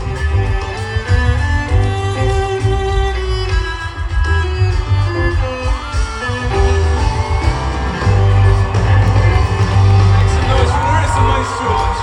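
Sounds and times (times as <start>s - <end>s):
heavy steady bass: 0.0s - 12.0s
violin long held notes: 0.0s - 12.0s.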